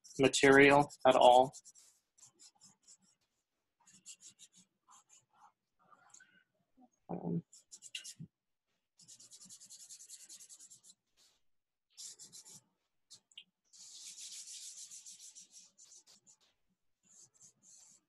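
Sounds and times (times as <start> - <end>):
charcoal scratching on paper: 0.0 - 5.6, 7.4 - 8.2, 9.0 - 18.0.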